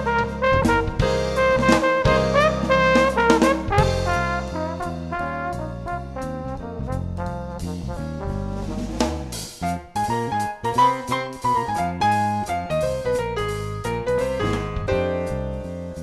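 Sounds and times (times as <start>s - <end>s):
brass jazz music: 0.0s - 16.0s.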